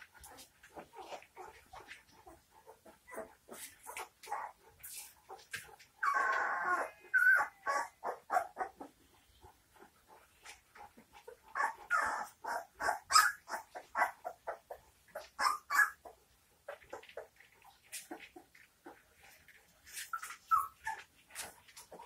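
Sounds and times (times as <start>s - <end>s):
puppies whimpering and squeaking: 0.2s - 22.0s.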